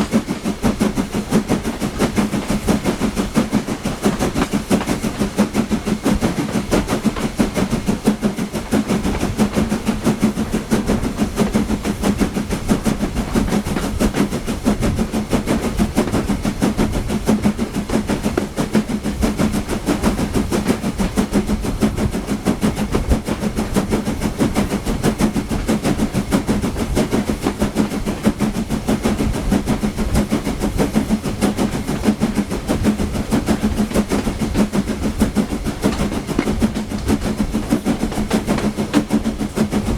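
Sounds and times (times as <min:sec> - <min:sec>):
steam train running: 0:00.0 - 0:39.9.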